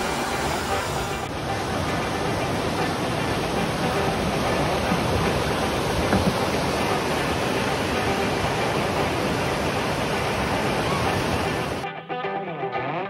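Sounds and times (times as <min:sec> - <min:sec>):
water rushing over rocks: 0:00.0 - 0:11.8.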